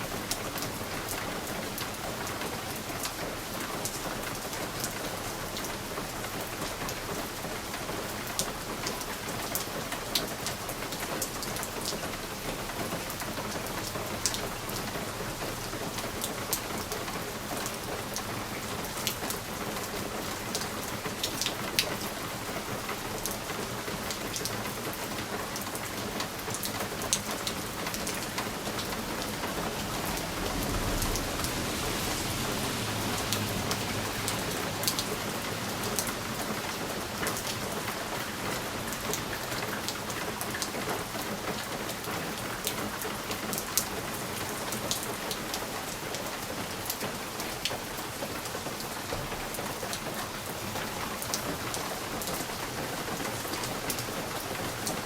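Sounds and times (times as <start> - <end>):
rain pattering on a window: 0.0 - 55.0.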